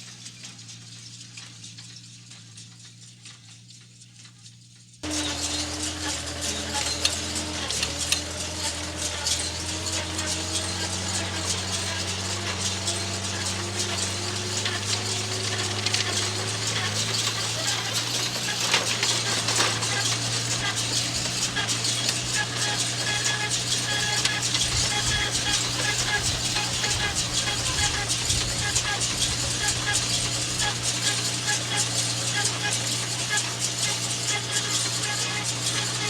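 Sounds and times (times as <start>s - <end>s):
diesel machinery engine hum: 4.9s - 36.0s
clicks and rattles: 5.0s - 36.0s.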